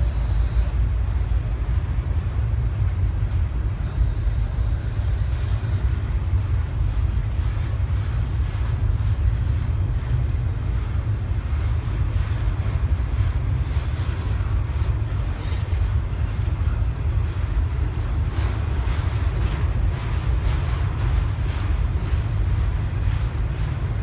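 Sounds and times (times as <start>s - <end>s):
freight train rumbling on rails: 0.0s - 24.0s
wind buffeting microphone: 0.0s - 24.0s.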